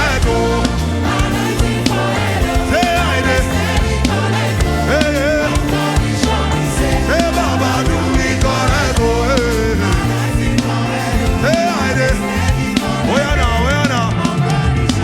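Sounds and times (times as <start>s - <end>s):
gospel band playing: 0.0s - 15.0s
person singing: 0.0s - 15.0s.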